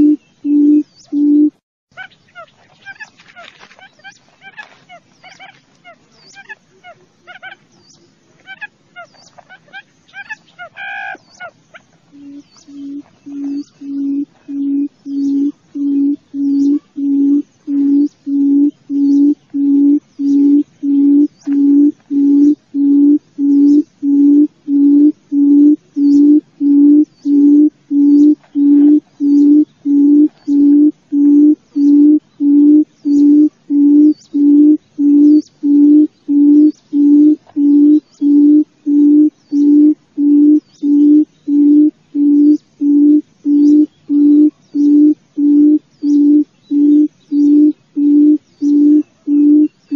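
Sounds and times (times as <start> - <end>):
quail low hoots: 0.0 - 7.6, 8.4 - 49.9
higher bird chirps: 0.0 - 49.9.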